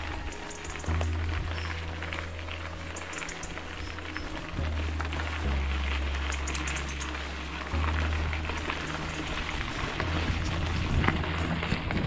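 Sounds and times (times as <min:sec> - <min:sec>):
bicycle tyres crunching on gravel: 0:00.0 - 0:12.0
wind rumble on microphone: 0:00.0 - 0:12.0.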